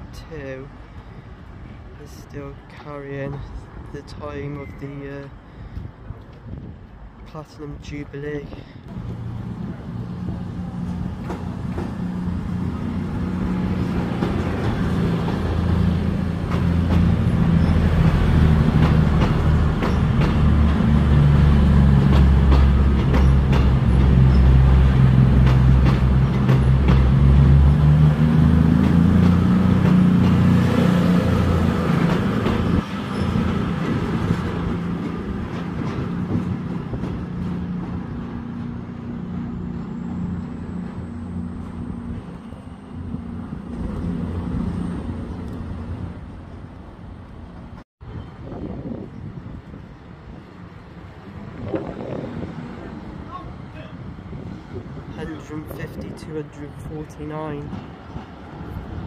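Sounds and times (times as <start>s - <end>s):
train diesel engines passing: 0.0s - 59.0s.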